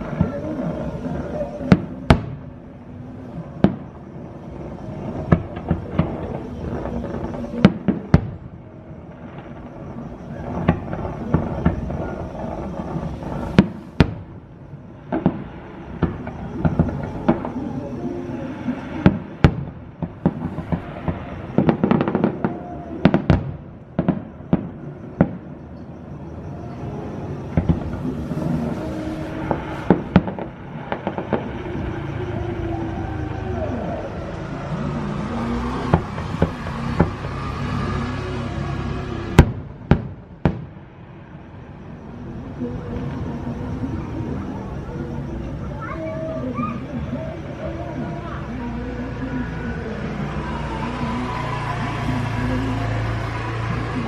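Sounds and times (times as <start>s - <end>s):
fireworks bangs: 0.0s - 47.4s
steady background noise: 0.0s - 54.0s.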